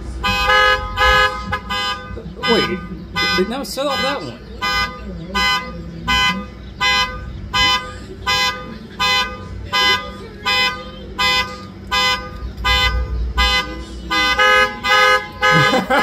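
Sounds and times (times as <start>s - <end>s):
car alarm horn blasts: 0.2s - 16.0s.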